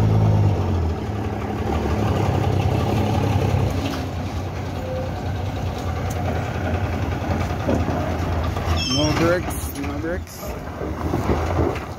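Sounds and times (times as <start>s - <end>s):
diesel truck engine idling: 0.0s - 11.9s.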